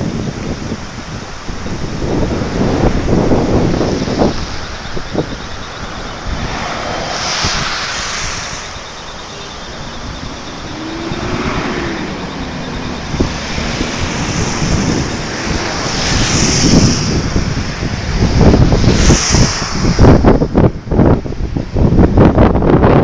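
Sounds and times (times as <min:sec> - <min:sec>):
rain: 0:00.0 - 0:23.0
wind buffeting microphone: 0:00.0 - 0:23.0.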